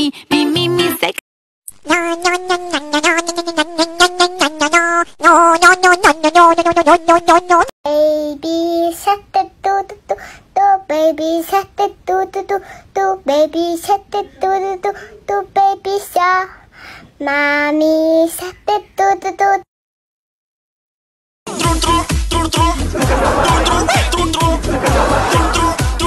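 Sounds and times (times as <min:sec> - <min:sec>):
childlike voice singing: 0:01.8 - 0:16.5, 0:17.2 - 0:19.7, 0:21.5 - 0:26.0.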